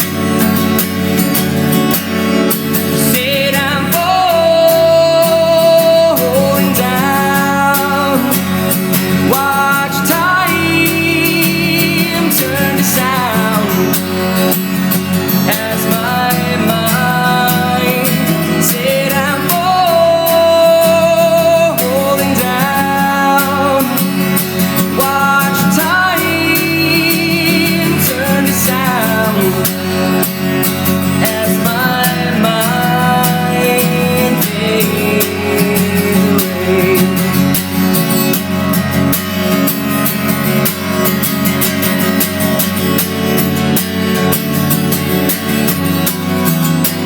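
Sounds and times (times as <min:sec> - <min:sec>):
person singing with vibrato: 0:00.0 - 0:47.0
plucked acoustic guitar: 0:00.0 - 0:47.0.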